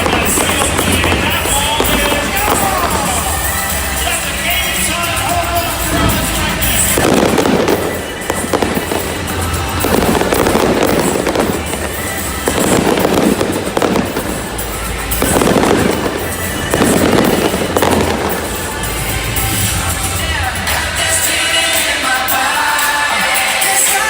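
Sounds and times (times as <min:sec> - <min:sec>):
fireworks bursting and crackling: 0:00.0 - 0:24.0
music over sound system: 0:00.0 - 0:24.0.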